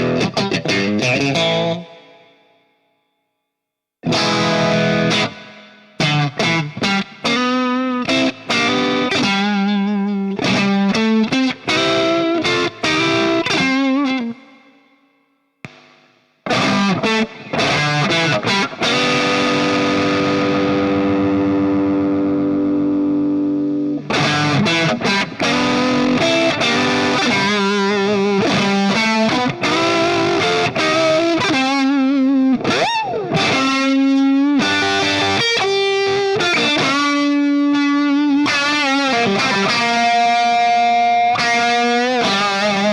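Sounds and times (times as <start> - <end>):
distorted electric guitar: 0.0 - 2.8, 4.0 - 42.9.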